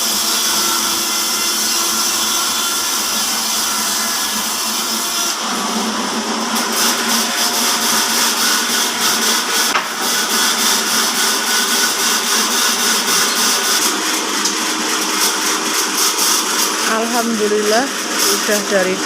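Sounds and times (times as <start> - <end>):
band saw cutting wood: 0.0 - 19.0.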